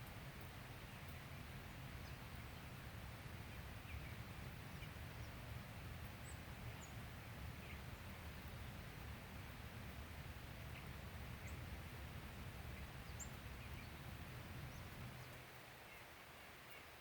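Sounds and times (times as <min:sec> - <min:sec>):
small birds chirping: 0:00.8 - 0:08.8, 0:10.0 - 0:17.0.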